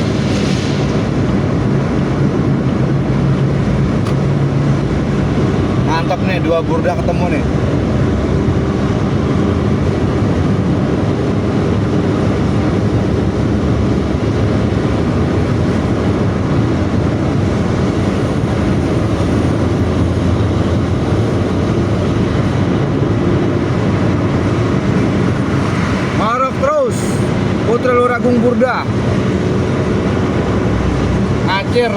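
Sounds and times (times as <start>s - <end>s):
bus engine and exhaust drone: 0.0s - 31.9s
road noise: 0.0s - 31.9s.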